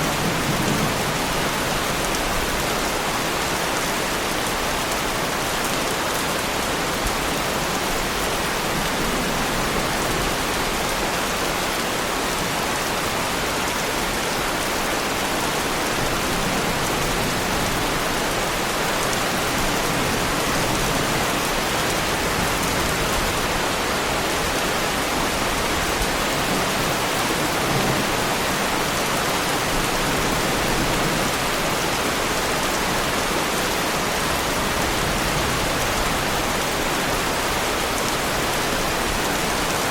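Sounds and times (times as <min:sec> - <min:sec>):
heavy rain on car bodywork: 0:00.0 - 0:39.9.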